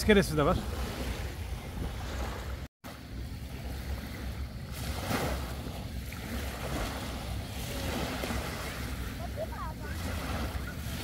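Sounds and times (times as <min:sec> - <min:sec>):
small waves washing on shore: 0:00.0 - 0:11.0
wind rumbling on microphone: 0:00.0 - 0:11.0.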